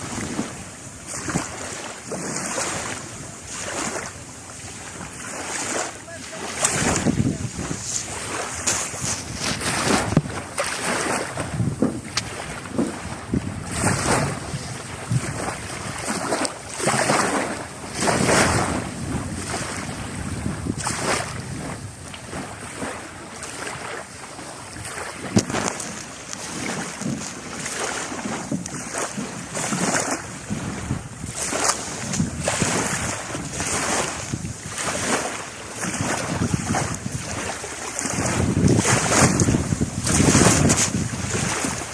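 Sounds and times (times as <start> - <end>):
sea waves splashing: 0.0 - 41.9
wind buffeting microphone: 0.0 - 41.9.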